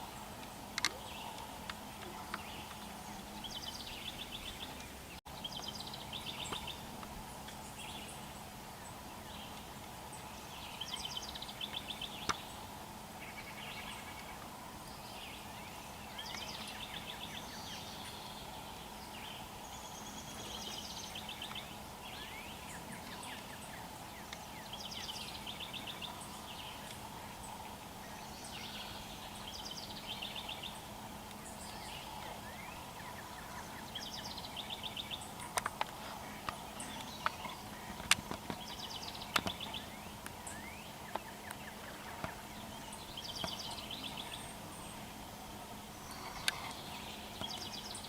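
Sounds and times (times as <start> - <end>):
faint steady hum: 0.0 - 48.0
small birds trilling: 0.0 - 48.0.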